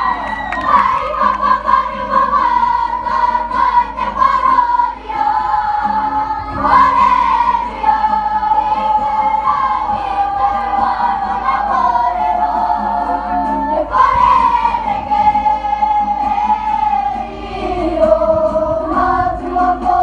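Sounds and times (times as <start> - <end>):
acoustic guitar: 0.0 - 20.0
children singing in unison: 0.0 - 20.0.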